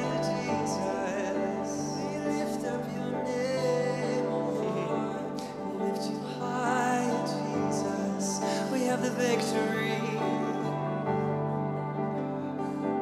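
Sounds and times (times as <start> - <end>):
wordless singing: 0.0 - 12.8
acoustic guitar: 0.0 - 13.0
held keyboard chords: 0.0 - 13.0.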